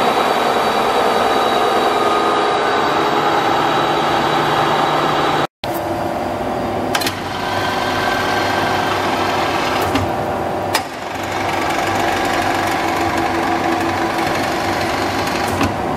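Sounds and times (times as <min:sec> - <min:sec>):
lathe running with whine: 0:00.0 - 0:05.5, 0:07.0 - 0:15.5.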